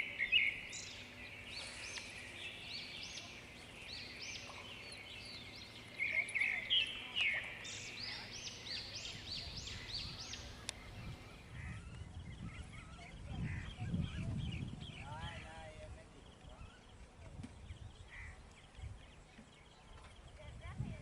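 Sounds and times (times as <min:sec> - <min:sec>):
birds calling: 0:00.0 - 0:20.6.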